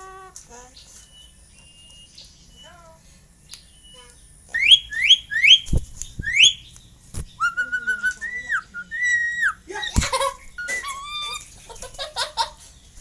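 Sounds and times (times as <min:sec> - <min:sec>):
myna bird whistling: 0:00.0 - 0:02.9, 0:03.5 - 0:11.5.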